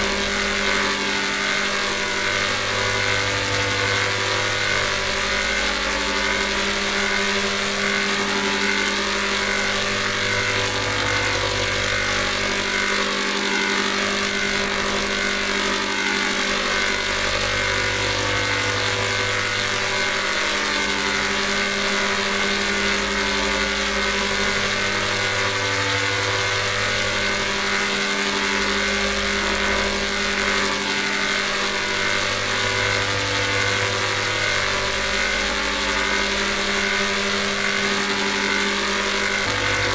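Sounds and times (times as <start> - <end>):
layered drone of held tones: 0.0 - 39.9.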